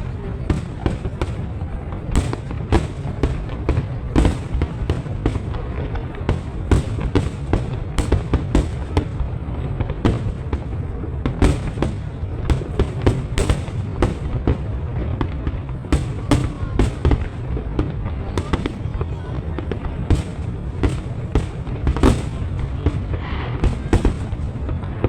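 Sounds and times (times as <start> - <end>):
fireworks and firecrackers banging: 0.0 - 25.0.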